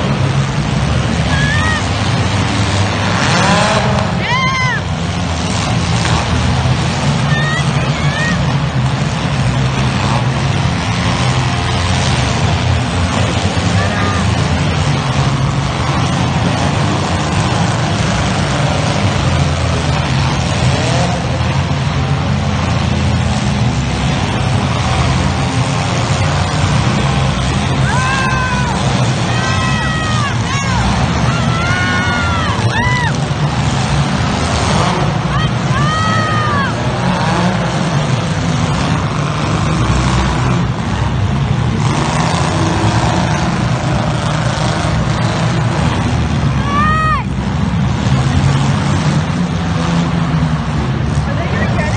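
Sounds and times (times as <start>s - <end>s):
car engines running: 0.0s - 51.9s.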